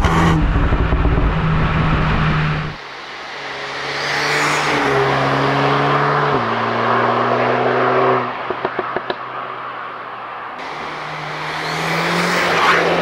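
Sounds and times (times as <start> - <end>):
car engine accelerating hard: 0.0 - 9.2, 10.6 - 13.0.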